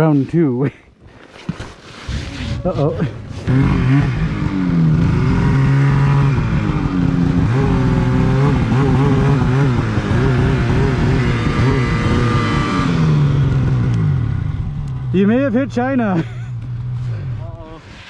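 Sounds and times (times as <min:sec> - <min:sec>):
snowmobile engine revving: 0:02.4 - 0:18.0.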